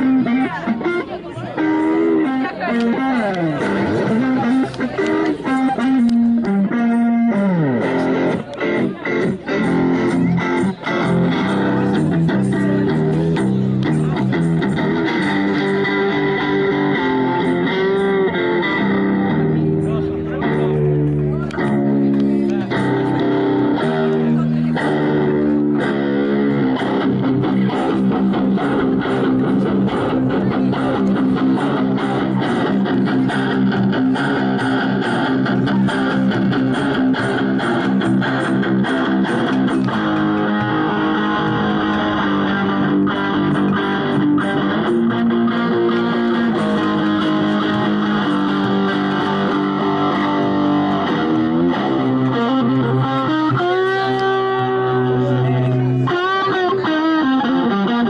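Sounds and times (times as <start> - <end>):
electric guitar playing blues: 0.0 - 58.0.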